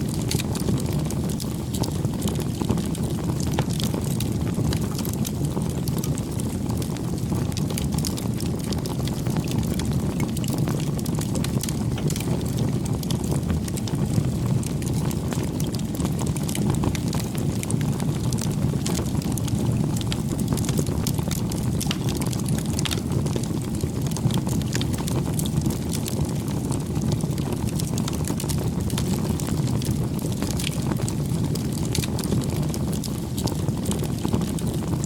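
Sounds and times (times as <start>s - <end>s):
campfire burning: 0.0s - 35.0s
wood crackling and popping: 0.0s - 35.0s.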